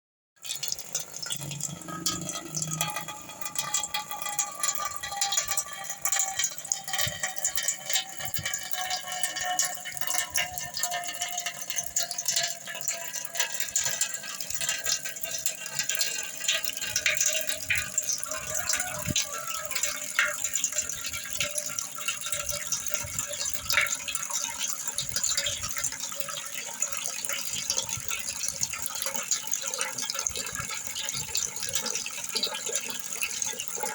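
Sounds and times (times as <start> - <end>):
water dripping: 0.4 - 33.9.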